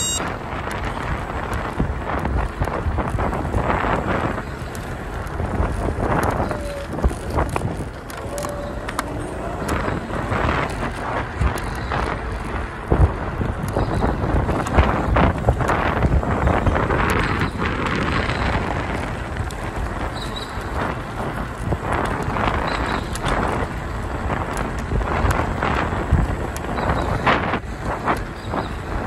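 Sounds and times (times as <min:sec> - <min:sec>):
tyre and rattle noise: 0:00.0 - 0:29.0
wind over microphone: 0:00.0 - 0:29.0.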